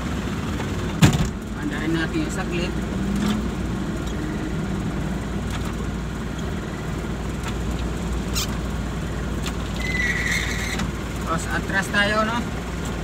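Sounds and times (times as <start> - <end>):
truck engine low drone: 0.0 - 13.0.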